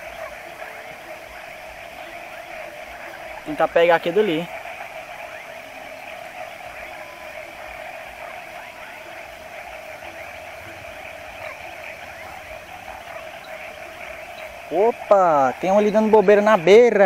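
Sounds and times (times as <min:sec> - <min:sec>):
insects droning buzz: 0:00.0 - 0:17.0.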